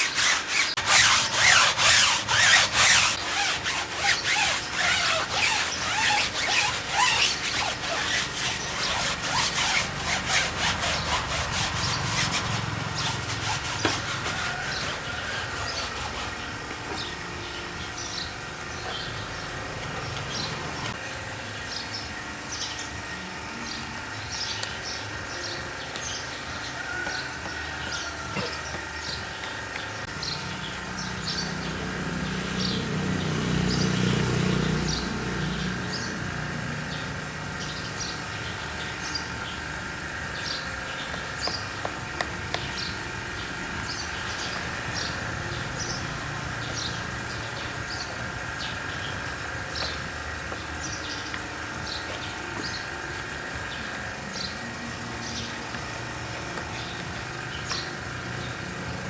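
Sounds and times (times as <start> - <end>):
birds chirping: 0.0 - 21.0, 21.6 - 59.0
mechanical hum with whine: 0.0 - 59.0.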